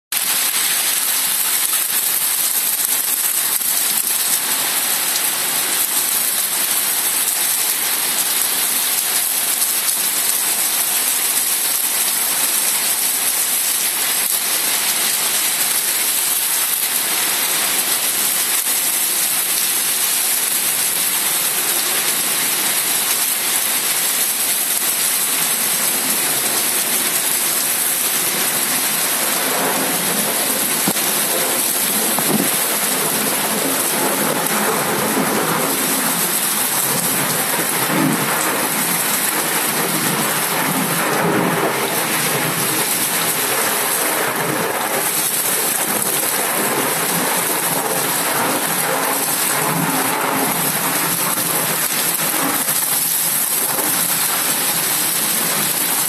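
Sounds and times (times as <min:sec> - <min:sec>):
torrential rain on street and cars: 0:00.1 - 0:56.0.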